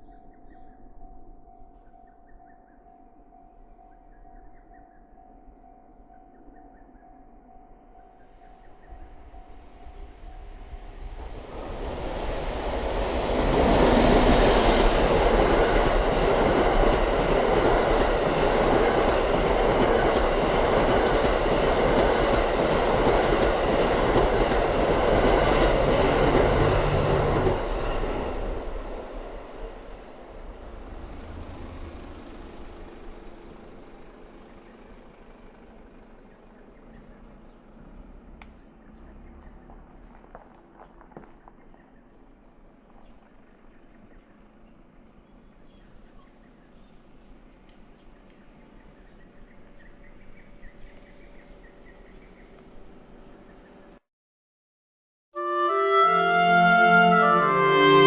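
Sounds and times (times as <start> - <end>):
train passing: 7.0 - 54.0, 55.4 - 58.0.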